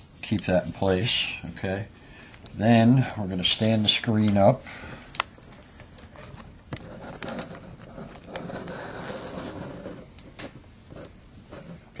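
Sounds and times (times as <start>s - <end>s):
soft plastic rustle: 0.0s - 12.0s.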